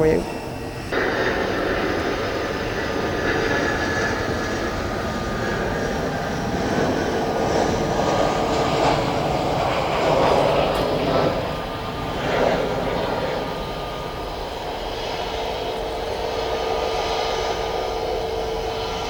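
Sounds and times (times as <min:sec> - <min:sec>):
airliner engines passing: 0:00.0 - 0:19.0.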